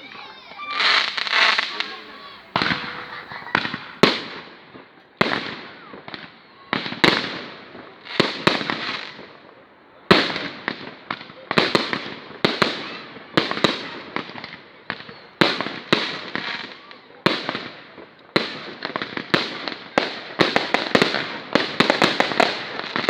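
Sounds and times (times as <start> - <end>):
fireworks bursting with echoing bangs: 0.0 - 23.0.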